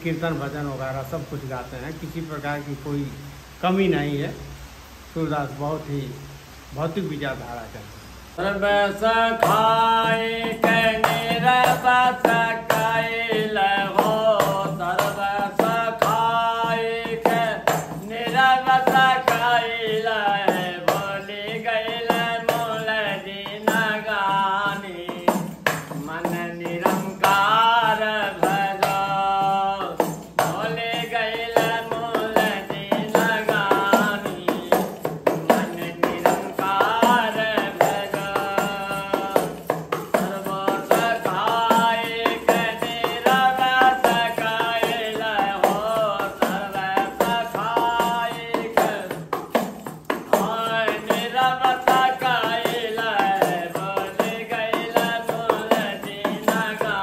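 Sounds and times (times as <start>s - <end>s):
man singing: 8.4s - 57.0s
jingling hand percussion clicks: 8.5s - 57.0s.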